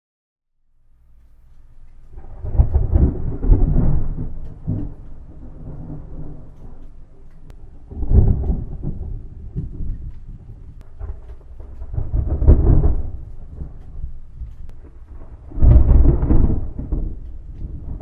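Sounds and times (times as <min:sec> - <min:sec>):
thunder clap and rumbling: 0:01.5 - 0:18.0.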